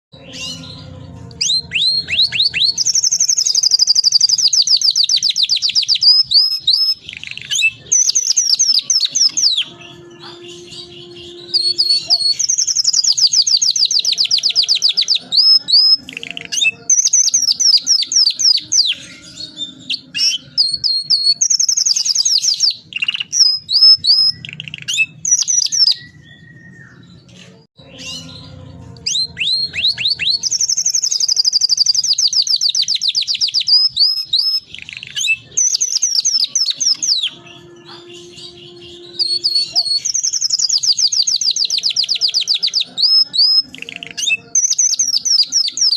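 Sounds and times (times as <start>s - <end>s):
canary singing trills: 0.1s - 45.9s.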